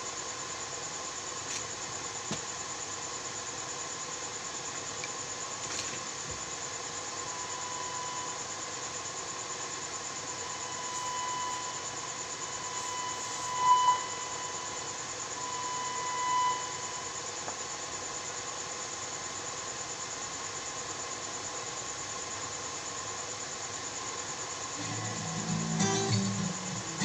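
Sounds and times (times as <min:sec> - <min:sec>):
faint high whine: 0:00.0 - 0:27.0
steady electronic hiss: 0:00.0 - 0:27.0.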